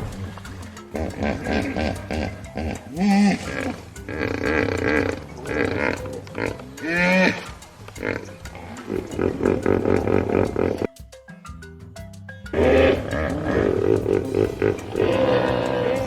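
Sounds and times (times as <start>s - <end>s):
hippopotamus grunts: 0.0s - 10.9s, 12.6s - 16.0s
hippopotamus call rising in pitch: 0.0s - 11.6s, 12.5s - 16.0s
background music: 0.0s - 16.0s.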